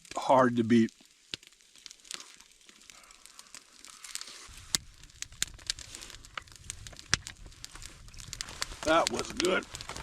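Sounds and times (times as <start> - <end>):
food wrapping crinkling: 1.0 - 10.0.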